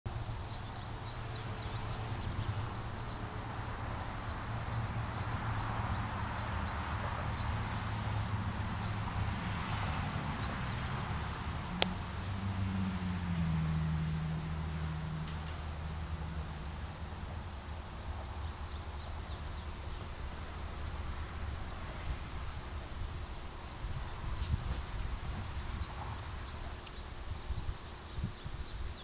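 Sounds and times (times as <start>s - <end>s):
low engine rumble: 0.1s - 29.0s.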